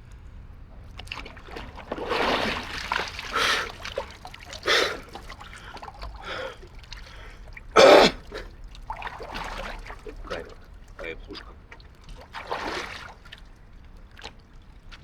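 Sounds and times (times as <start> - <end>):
water splashing and trickling: 0.6 - 15.0.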